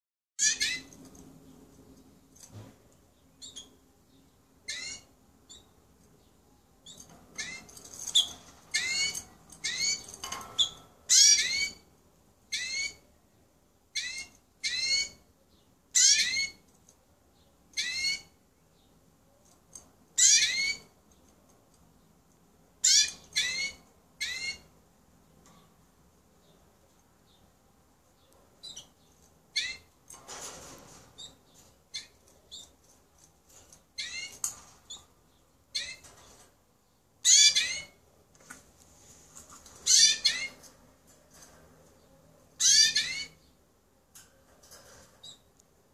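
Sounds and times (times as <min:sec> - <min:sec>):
canary singing: 0:00.4 - 0:02.2, 0:03.1 - 0:13.1, 0:13.9 - 0:21.3, 0:22.7 - 0:24.9, 0:26.4 - 0:30.1, 0:30.9 - 0:38.1, 0:39.5 - 0:43.6, 0:44.9 - 0:45.6.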